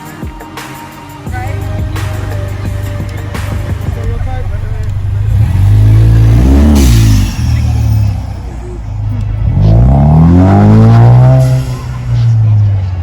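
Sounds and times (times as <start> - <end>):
car engine revving: 1.3 - 13.0.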